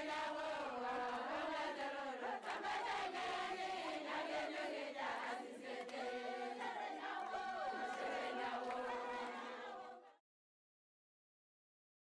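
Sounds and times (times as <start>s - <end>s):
group of voices singing: 0.0s - 10.2s.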